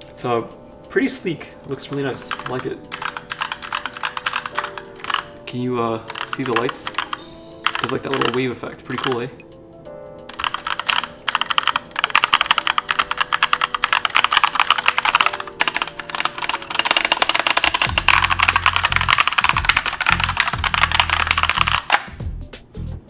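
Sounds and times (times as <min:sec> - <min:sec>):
background music: 0:00.0 - 0:23.0
mechanical keyboard typing: 0:01.8 - 0:09.3, 0:10.3 - 0:22.2.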